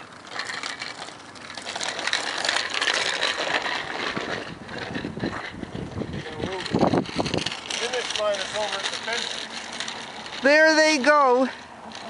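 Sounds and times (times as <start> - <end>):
bicycle clicks and rattles: 0.0 - 12.0
bicycle tyres hissing on road: 0.0 - 12.0.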